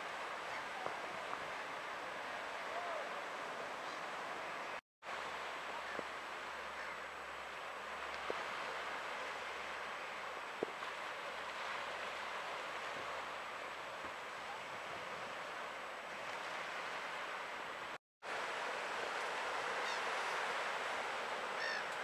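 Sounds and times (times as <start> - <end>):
small waves breaking on beach: 0.0 - 22.0.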